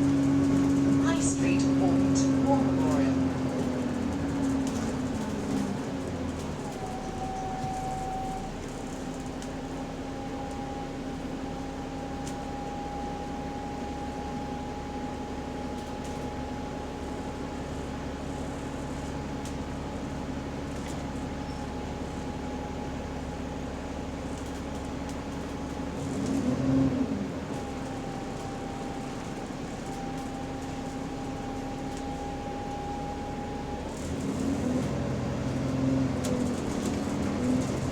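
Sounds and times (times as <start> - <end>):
bus differential whine: 0.0 - 37.9
bus engine and road rumble: 0.0 - 37.9.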